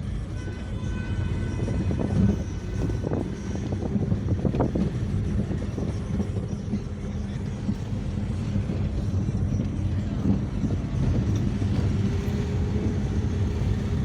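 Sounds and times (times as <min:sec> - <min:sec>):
car engine humming: 0:00.0 - 0:14.0
tyre road noise: 0:00.0 - 0:14.0.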